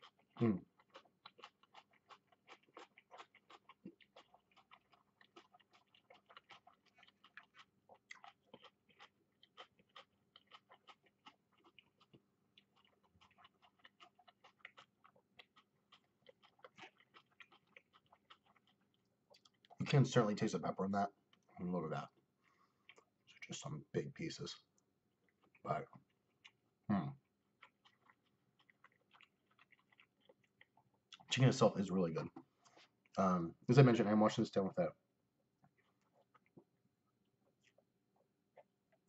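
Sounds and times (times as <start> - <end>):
chewing with wet mouth clicks: 0.0 - 20.3, 21.1 - 23.7, 24.6 - 31.4, 35.6 - 39.0.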